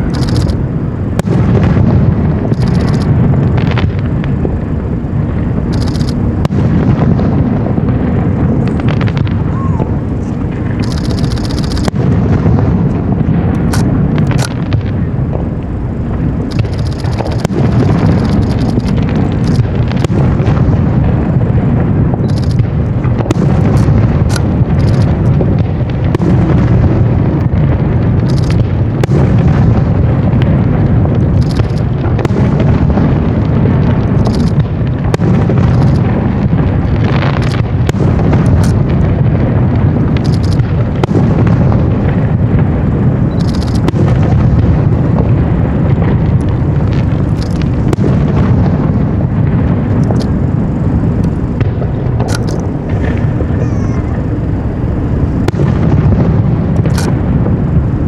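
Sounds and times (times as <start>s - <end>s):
fireworks booming: 0.0s - 58.0s
high fireworks crackling: 0.0s - 58.0s.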